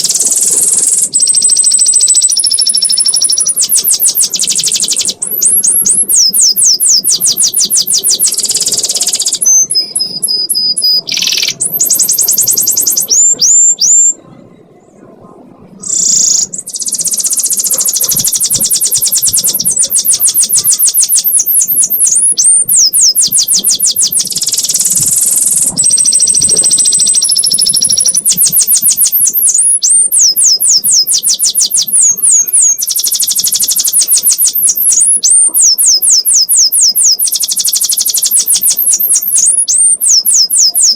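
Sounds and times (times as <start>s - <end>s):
canary singing trills: 0.0s - 15.0s, 15.8s - 40.9s.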